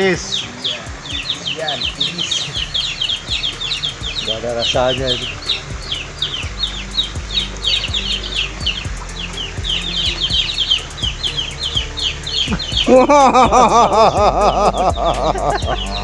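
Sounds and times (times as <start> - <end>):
birds chirping: 0.0 - 16.0
loud bird call: 0.0 - 16.0.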